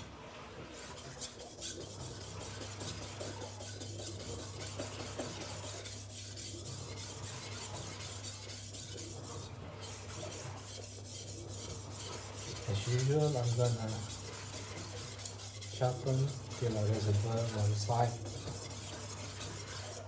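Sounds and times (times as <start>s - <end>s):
blade scraping on whetstone: 0.8s - 20.0s.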